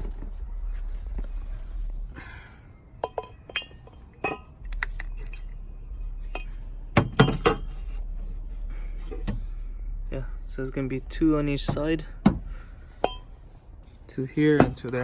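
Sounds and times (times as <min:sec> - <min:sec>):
metal exhaust tips clinking: 0:00.0 - 0:15.0.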